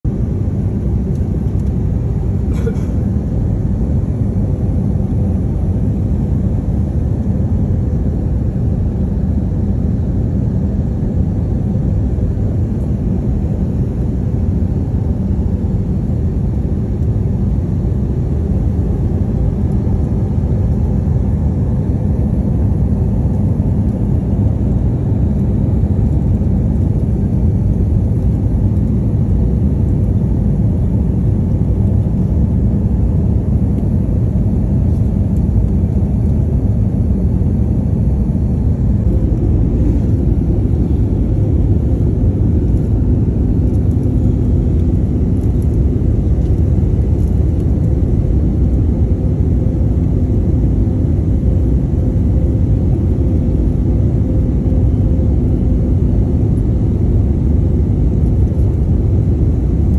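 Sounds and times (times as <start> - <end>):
airliner cabin engine rumble: 0.0 - 59.9
faint steady hum: 0.1 - 59.9.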